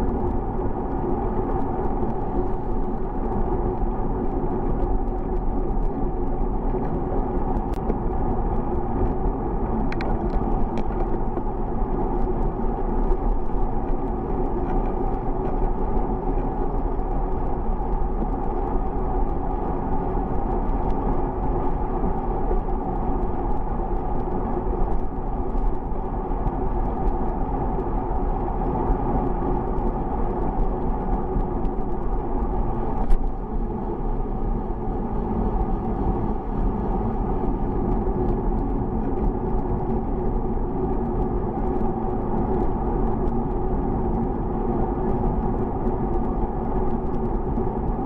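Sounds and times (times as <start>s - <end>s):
bicycle rolling rumble: 0.0s - 48.0s
wind noise: 0.0s - 48.0s.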